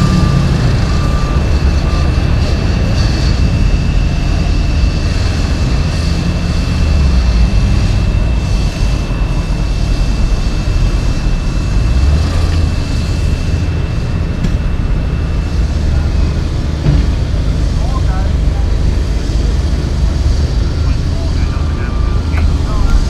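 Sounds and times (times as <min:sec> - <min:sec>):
diesel engines rumbling: 0:00.0 - 0:23.0
thin high whine: 0:00.0 - 0:23.0.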